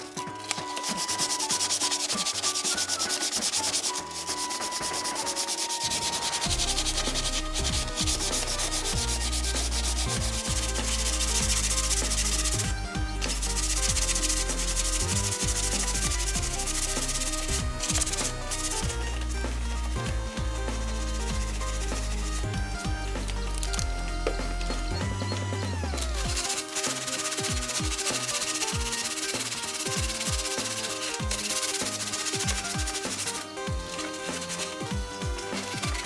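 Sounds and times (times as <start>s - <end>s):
sandpaper rubbing on wood: 0.0s - 25.0s, 25.9s - 36.0s.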